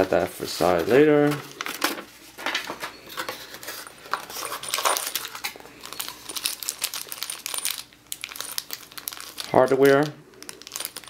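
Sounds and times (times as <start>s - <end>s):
packaging rustle: 0.8s - 11.0s.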